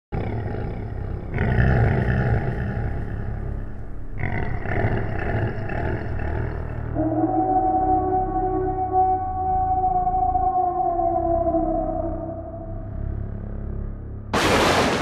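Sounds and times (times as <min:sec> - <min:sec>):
deep rough monster growl: 0:00.1 - 0:13.9.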